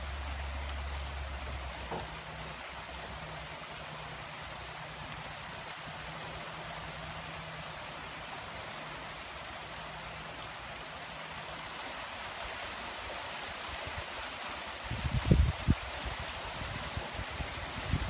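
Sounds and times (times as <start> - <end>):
light rain on leaves and pavement: 0.0 - 18.0.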